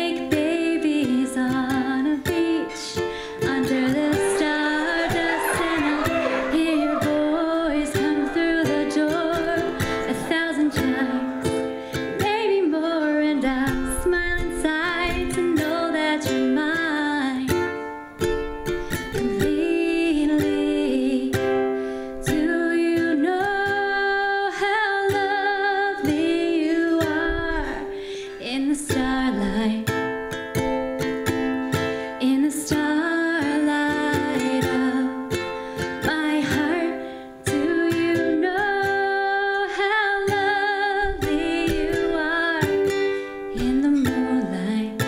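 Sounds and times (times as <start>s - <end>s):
woman singing: 0.0s - 30.4s, 31.2s - 45.0s
ukulele strumming: 0.0s - 45.0s.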